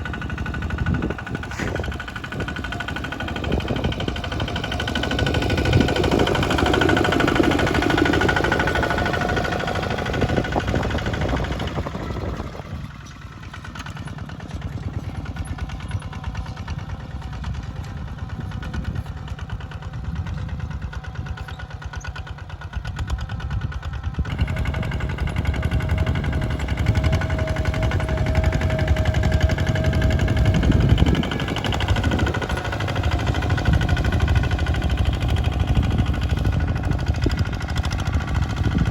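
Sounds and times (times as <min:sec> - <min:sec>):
bulldozer diesel engine knocking: 0:00.0 - 0:38.9.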